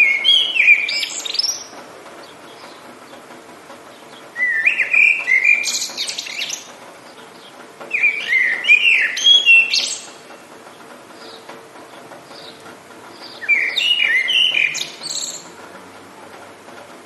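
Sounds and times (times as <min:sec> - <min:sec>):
songbird singing: 0:00.0 - 0:16.3.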